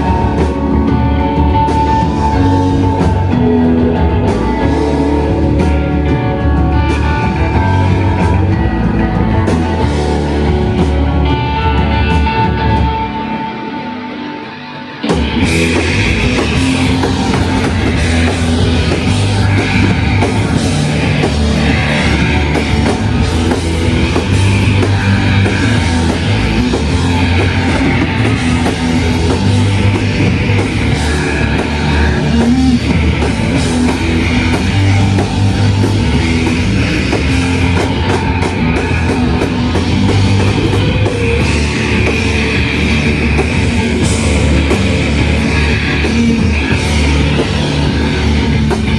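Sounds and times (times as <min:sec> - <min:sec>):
bass guitar: 0:00.0 - 0:48.9
distorted electric guitars: 0:00.0 - 0:48.9
drum kit: 0:00.0 - 0:48.9.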